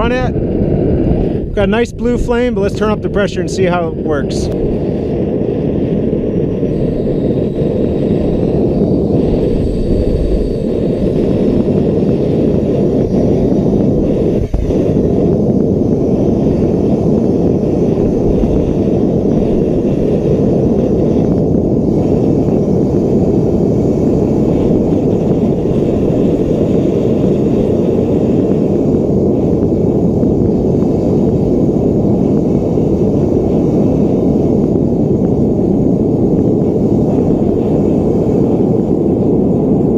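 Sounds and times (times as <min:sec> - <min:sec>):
gas forge burner roaring: 0:00.0 - 0:39.9.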